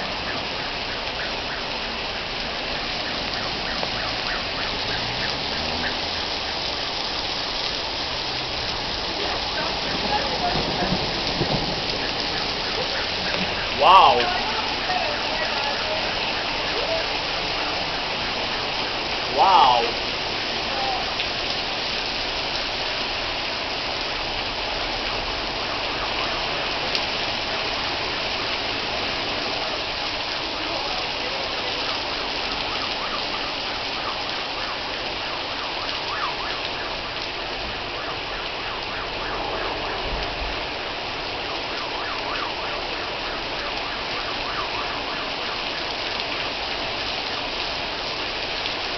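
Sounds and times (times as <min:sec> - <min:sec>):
heavy rain on street: 0:00.0 - 0:48.9.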